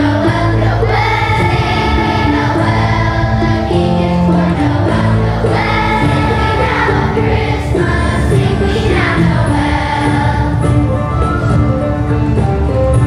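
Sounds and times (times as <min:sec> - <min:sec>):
children's choir singing: 0:00.0 - 0:13.0
instrumental accompaniment: 0:00.0 - 0:13.0.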